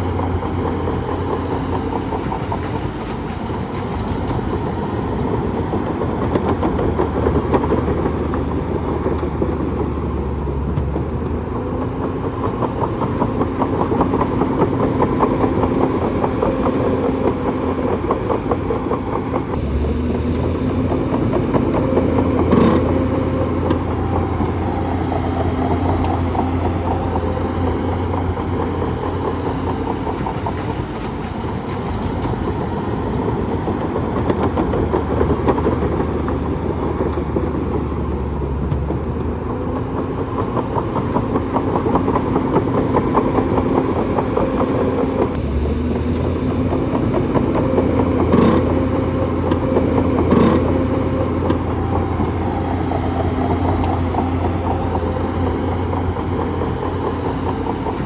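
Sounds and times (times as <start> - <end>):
bulldozer diesel engine running: 0.0 - 58.0
rapid metallic track clatter: 0.0 - 58.0.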